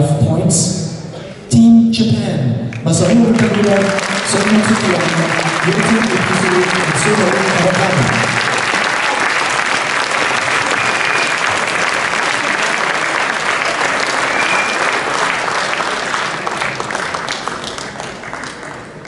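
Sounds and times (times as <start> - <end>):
crowd applauding: 2.7 - 19.0.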